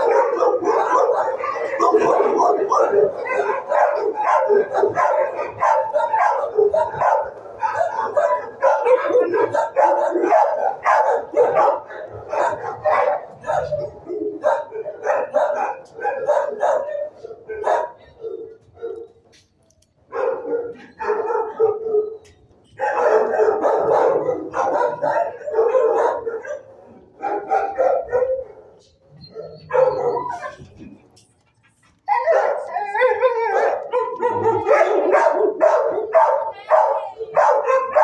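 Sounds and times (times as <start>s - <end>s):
dogs barking: 0.0s - 19.4s, 20.0s - 31.0s, 31.9s - 38.0s.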